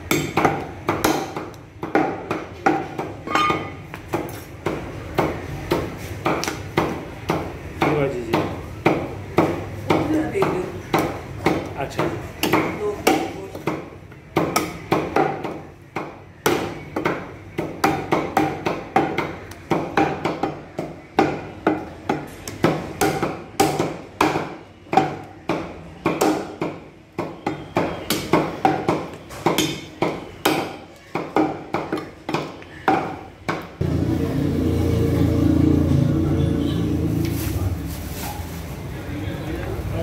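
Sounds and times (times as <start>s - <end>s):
cleaver chopping meat and bone: 0.0s - 33.8s.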